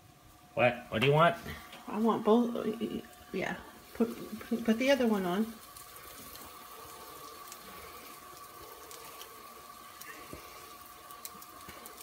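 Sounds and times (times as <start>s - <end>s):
food sizzling in a skillet: 0.0s - 12.0s
thin steady hum: 0.0s - 12.0s.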